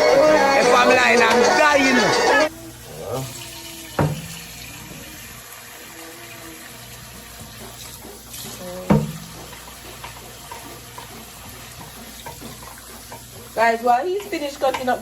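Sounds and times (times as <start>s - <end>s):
tap water running into a pot: 2.5s - 15.0s.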